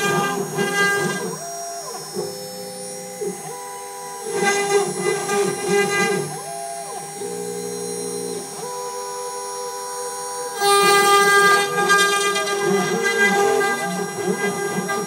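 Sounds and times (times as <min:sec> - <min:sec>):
router bit cutting wood: 0:00.0 - 0:15.0
router machine whine: 0:00.0 - 0:15.0.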